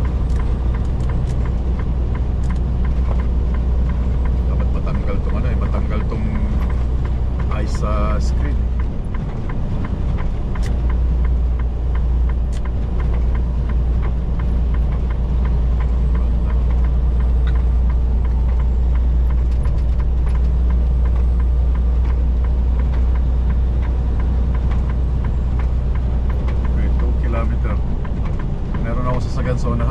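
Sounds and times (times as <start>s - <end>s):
faint rhythmic clicks: 0.0s - 29.9s
truck engine and road drone: 0.0s - 29.9s.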